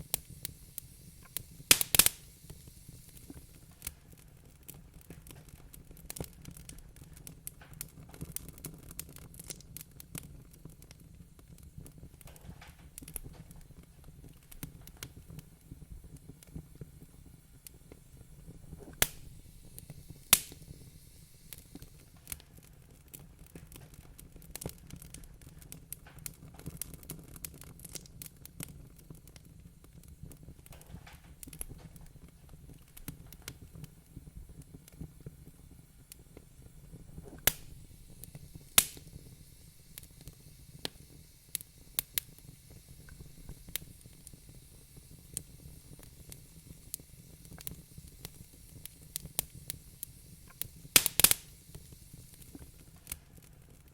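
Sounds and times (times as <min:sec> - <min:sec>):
sharp loud snaps of fire: 0:00.0 - 0:53.9
wood fire crackling: 0:00.0 - 0:53.9.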